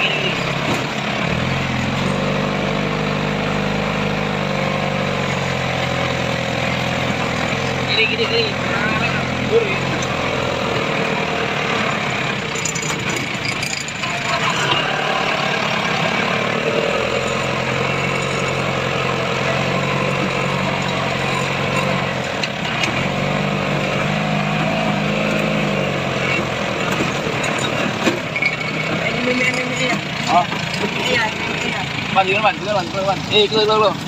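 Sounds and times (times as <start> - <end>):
car engine running on dirt track: 0.0 - 34.0.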